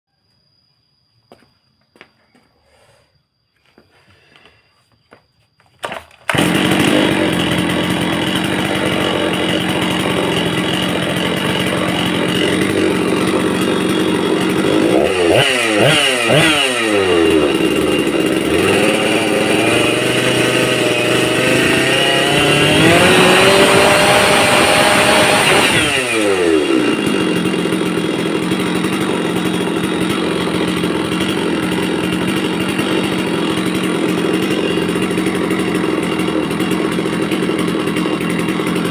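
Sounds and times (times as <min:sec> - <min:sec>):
chainsaw engine idling and revving: 0:05.8 - 0:38.9.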